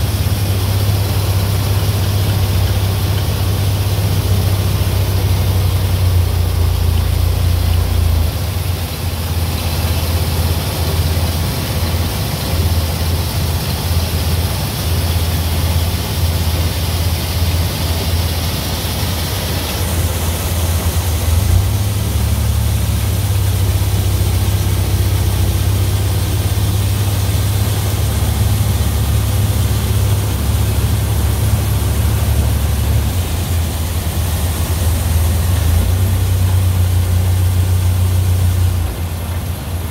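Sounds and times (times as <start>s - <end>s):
hiss of machinery: 0.0s - 39.9s
tractor engine droning: 0.0s - 39.9s.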